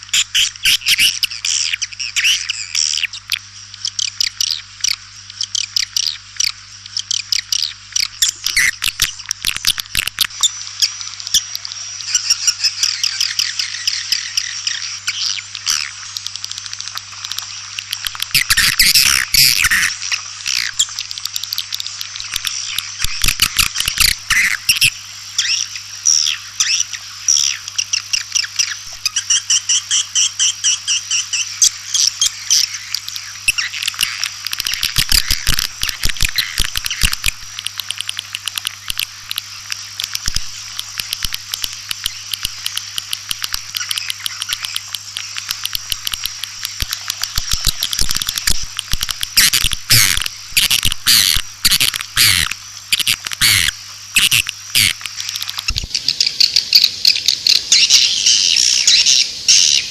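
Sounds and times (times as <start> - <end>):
swiftlets twittering chirps: 0.0 - 59.9.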